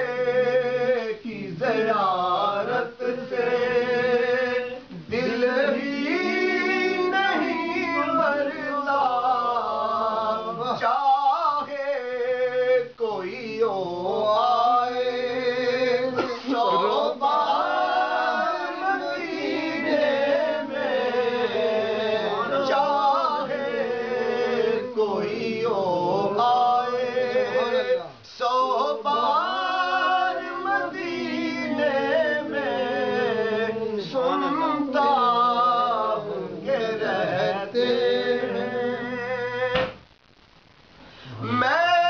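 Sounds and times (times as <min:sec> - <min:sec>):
man singing devotional song: 0:00.0 - 0:40.0, 0:41.1 - 0:42.0.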